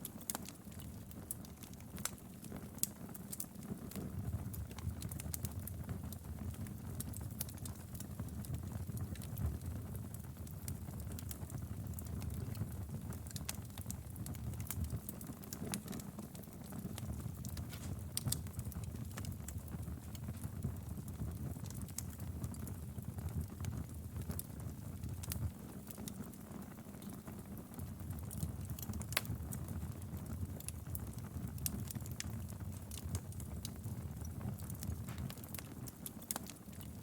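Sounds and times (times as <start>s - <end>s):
firewood crackling and popping: 0.0s - 37.0s
low rumble of flames: 0.0s - 37.0s.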